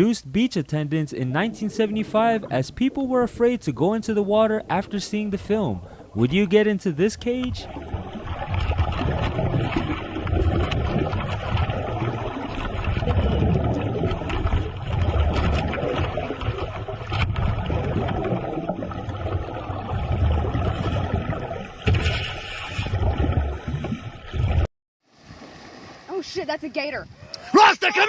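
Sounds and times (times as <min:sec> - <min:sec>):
water rushing and sloshing: 0:00.9 - 0:27.7.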